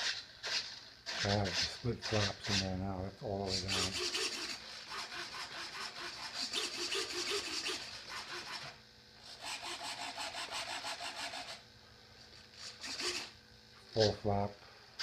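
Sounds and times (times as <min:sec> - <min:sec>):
servos buzzing: 0:00.0 - 0:15.0.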